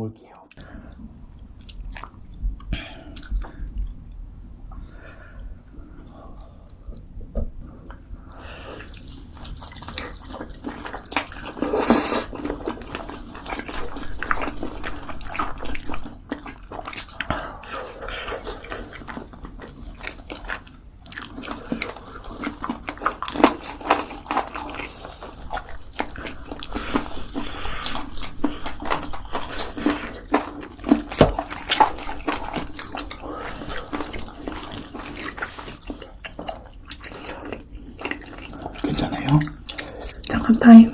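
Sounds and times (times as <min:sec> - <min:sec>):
wet chewing and smacking: 0:00.5 - 0:40.9.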